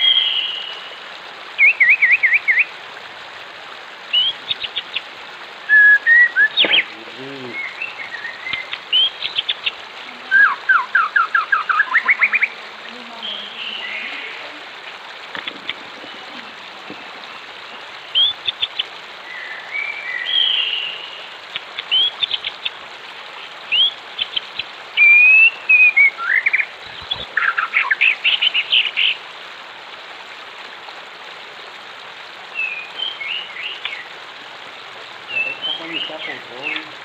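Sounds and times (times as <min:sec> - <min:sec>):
songbirds chirping and trilling: 0:00.0 - 0:02.8, 0:04.0 - 0:29.3, 0:32.5 - 0:37.0
running water: 0:00.0 - 0:37.0.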